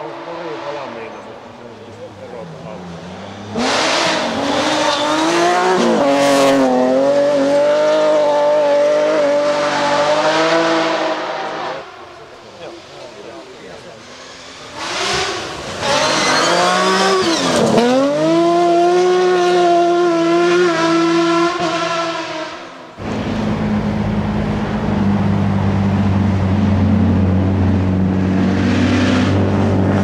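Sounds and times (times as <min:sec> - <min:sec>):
approaching rally car engine: 0:00.0 - 0:30.0
rally car engine at full throttle: 0:00.0 - 0:30.0.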